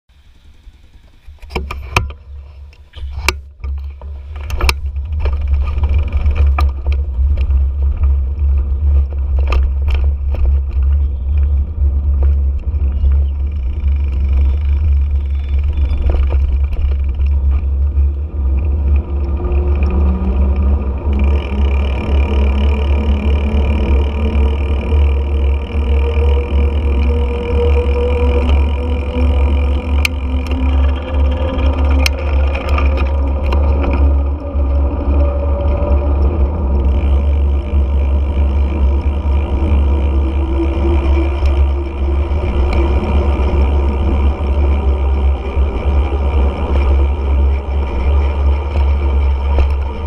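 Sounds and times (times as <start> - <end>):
road rumble: 0.1 - 50.0
heavy wind: 0.6 - 50.0
engine tone rising: 4.3 - 50.0.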